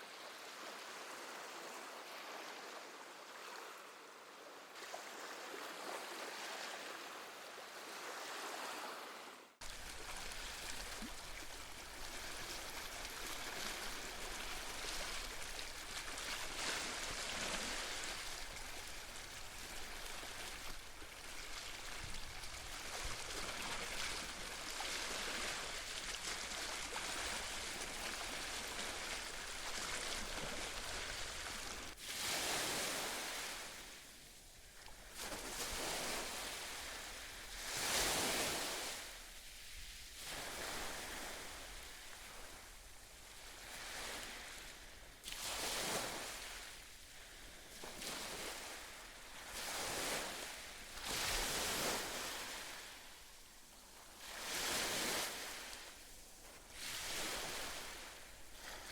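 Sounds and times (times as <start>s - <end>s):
ocean waves washing on shore: 0.0s - 58.9s.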